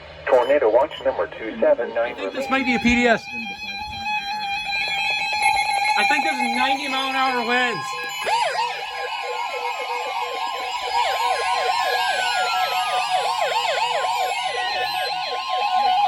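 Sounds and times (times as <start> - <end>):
steady high alarm tone: 0.2 - 1.2, 1.8 - 16.0
siren-like yelp: 0.2 - 16.0.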